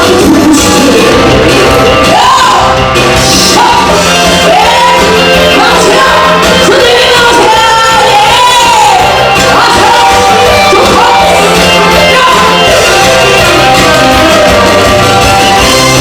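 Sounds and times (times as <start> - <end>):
band accompaniment: 0.0 - 16.0
person singing with vibrato: 0.0 - 16.0.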